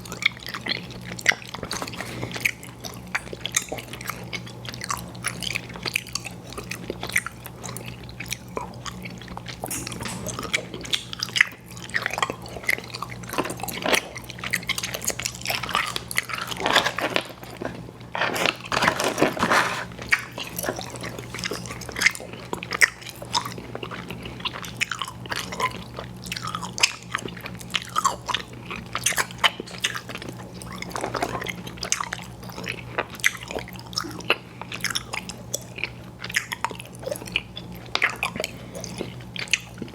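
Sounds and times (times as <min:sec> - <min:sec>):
chewing candy: 0:00.0 - 0:39.9.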